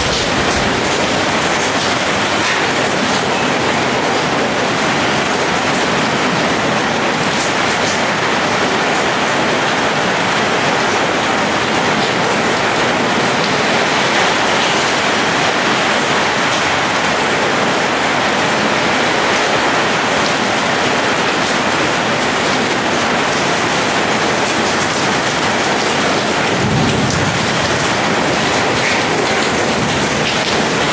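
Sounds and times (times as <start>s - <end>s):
heavy rain on metal roof: 0.0s - 30.9s
water streaming off roof edge: 0.0s - 30.9s.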